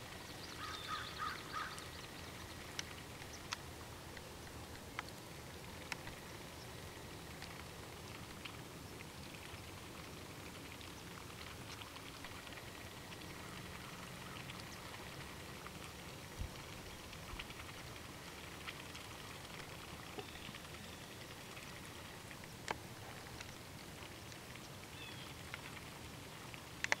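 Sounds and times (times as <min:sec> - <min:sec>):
light rain pattering: 0:00.0 - 0:27.0.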